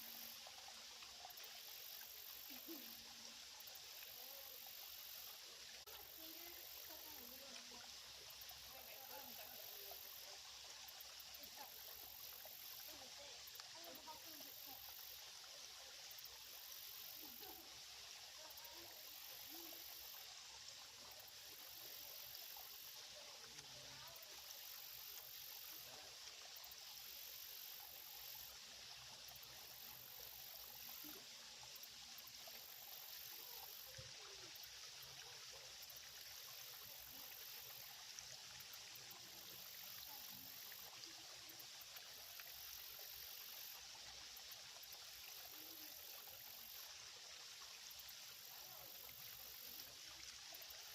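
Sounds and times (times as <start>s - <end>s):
creek trickling: 0.0s - 50.9s.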